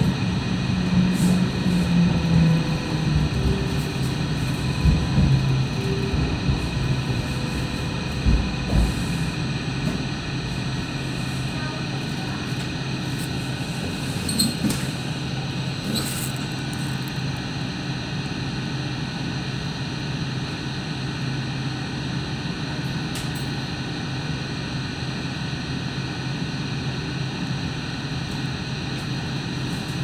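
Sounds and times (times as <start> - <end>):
train motors and wheels on rail: 0.0 - 19.9, 20.5 - 25.6.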